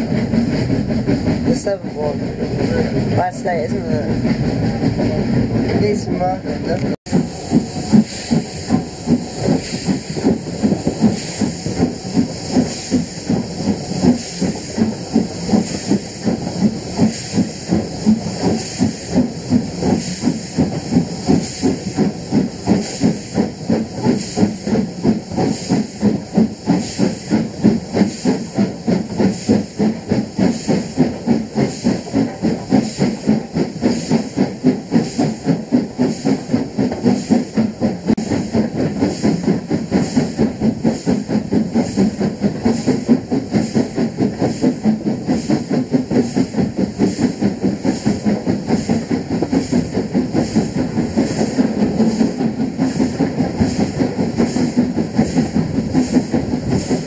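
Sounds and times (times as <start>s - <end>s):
steam locomotive exhaust beating: 0.0s - 57.0s.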